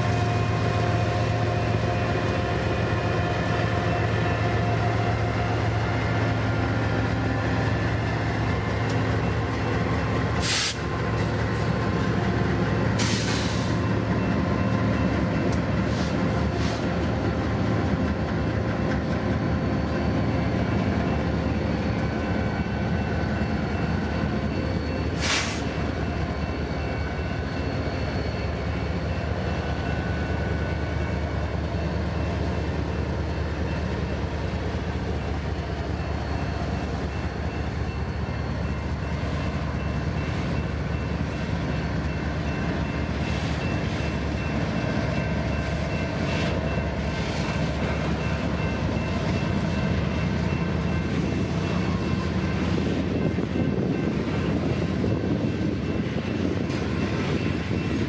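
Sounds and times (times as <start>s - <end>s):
diesel locomotive engines droning: 0.0s - 58.0s
wheels rumbling on rail: 0.0s - 58.0s.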